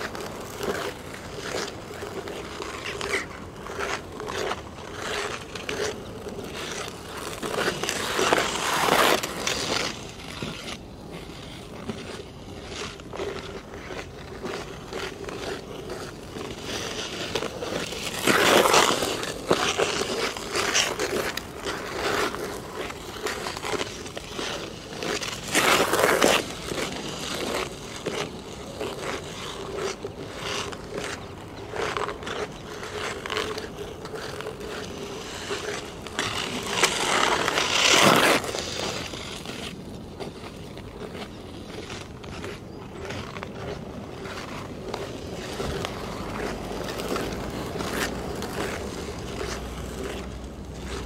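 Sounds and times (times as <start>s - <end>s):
ice skates scraping on ice: 0.0s - 51.0s.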